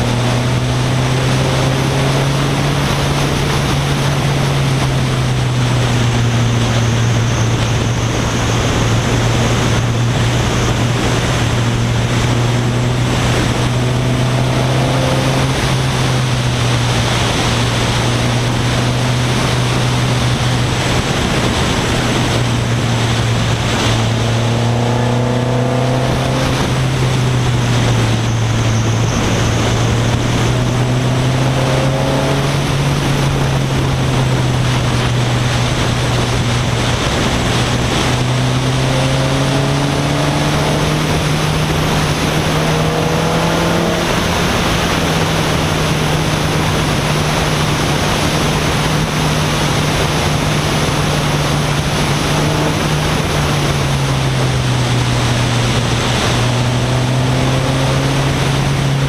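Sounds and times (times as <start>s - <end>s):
car engine droning: 0.0s - 59.0s
wind and road noise: 0.0s - 59.0s.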